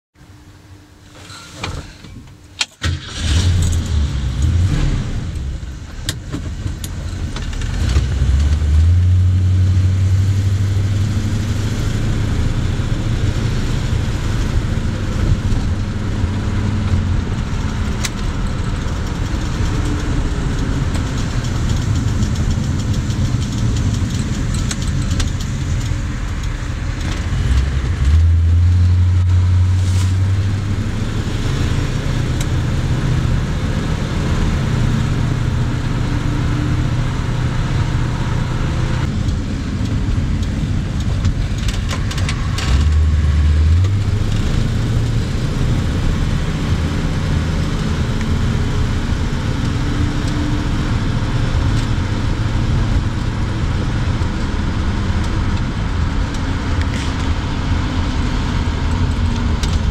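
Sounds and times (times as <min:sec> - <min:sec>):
car engine starting: 0:01.0 - 0:59.9
car engine accelerating: 0:02.8 - 0:59.9.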